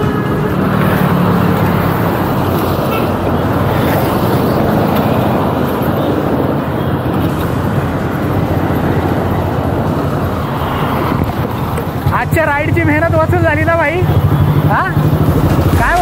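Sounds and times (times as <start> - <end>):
auto-rickshaws: 0.0 - 16.0
cars: 0.0 - 16.0
motorbikes: 0.0 - 16.0.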